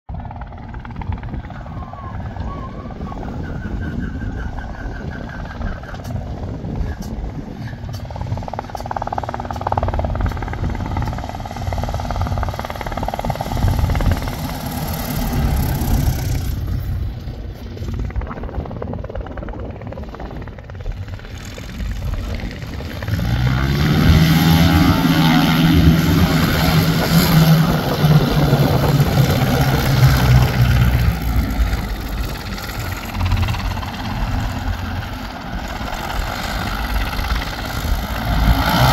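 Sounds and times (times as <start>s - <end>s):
propeller plane engine droning: 0.1s - 38.9s.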